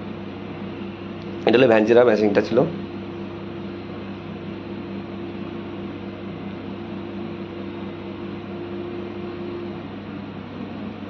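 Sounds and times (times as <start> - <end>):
dust extraction vacuum hum: 0.0 - 11.0.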